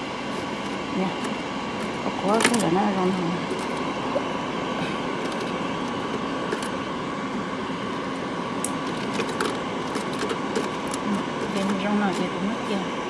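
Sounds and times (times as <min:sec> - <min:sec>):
dehydrator fan whirring: 0:00.0 - 0:13.0.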